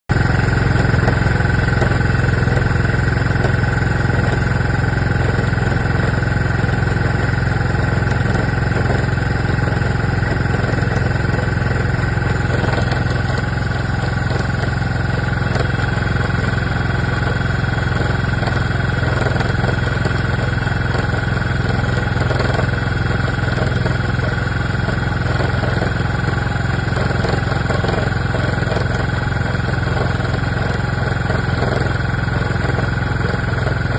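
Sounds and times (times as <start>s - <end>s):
scooter engine running: 0.1s - 33.9s.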